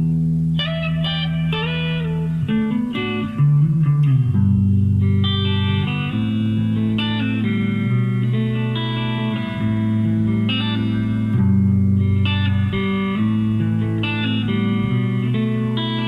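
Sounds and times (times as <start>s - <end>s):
bass line: 0.0s - 16.0s
clean electric guitar chords: 0.0s - 16.0s.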